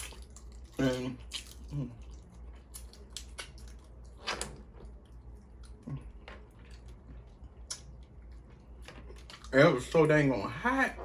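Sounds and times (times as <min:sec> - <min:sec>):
wet chewing and smacking: 0:00.0 - 0:09.7.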